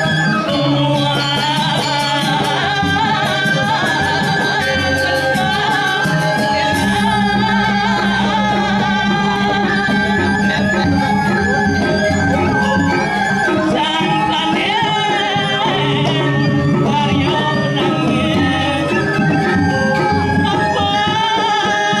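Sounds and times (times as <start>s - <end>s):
gamelan playing: 0.0s - 22.0s.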